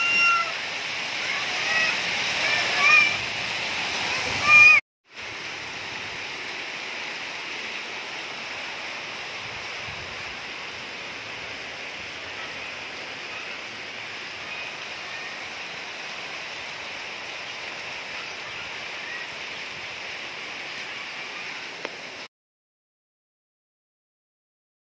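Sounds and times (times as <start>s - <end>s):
rain falling: 0.0s - 22.3s.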